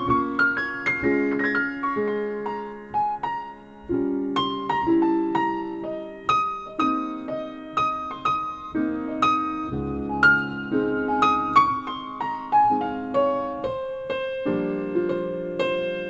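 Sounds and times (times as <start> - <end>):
piano ballad over loudspeakers: 0.0 - 16.0.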